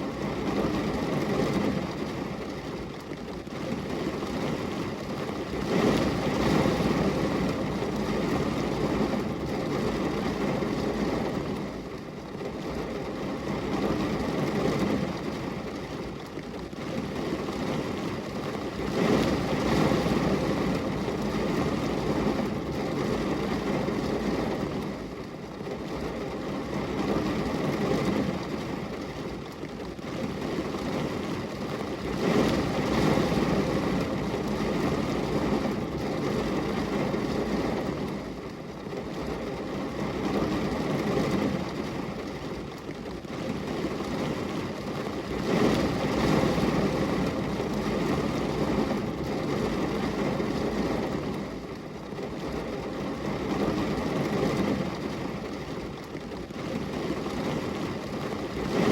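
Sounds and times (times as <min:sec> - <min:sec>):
rain on a glass window: 0:00.0 - 0:58.9.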